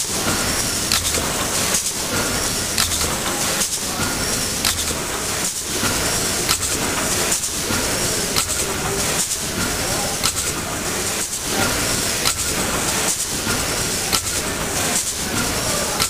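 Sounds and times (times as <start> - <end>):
steam engine clatter and hiss: 0.0 - 16.0.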